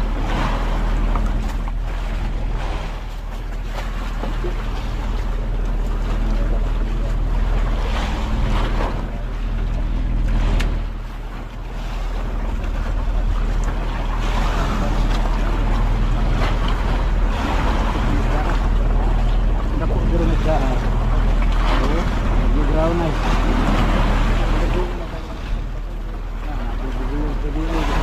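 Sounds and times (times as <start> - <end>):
boat engine drone: 0.0 - 28.0
water rushing past hull: 0.0 - 28.0.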